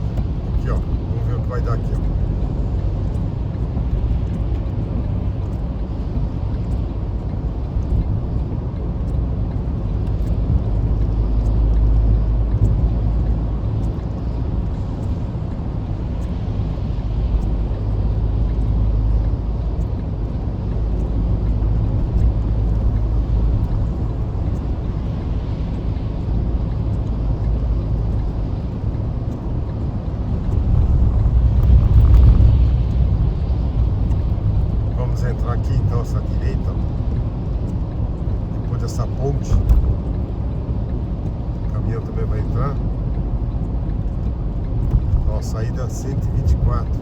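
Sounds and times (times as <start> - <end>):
car road and engine rumble: 0.0 - 47.0.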